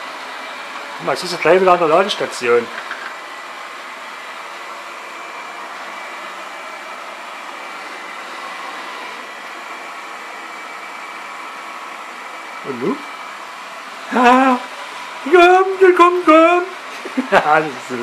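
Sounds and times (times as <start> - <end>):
robot vacuum running: 0.0 - 18.0.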